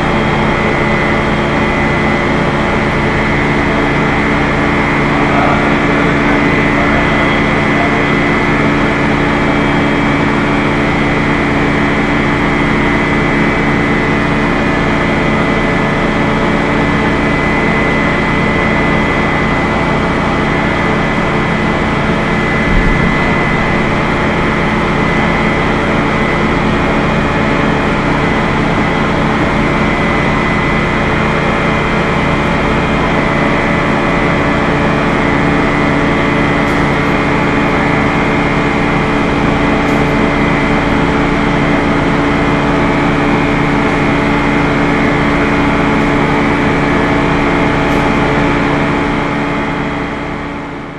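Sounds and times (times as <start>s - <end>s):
machinery drone: 0.0s - 50.9s.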